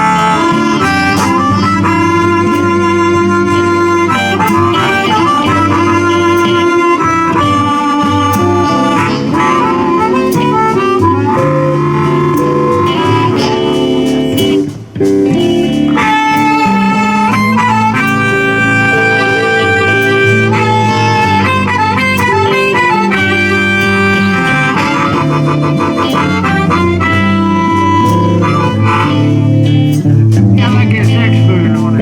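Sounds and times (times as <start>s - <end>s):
blues band playing: 0.0s - 32.0s
harmonica long notes: 0.0s - 32.0s.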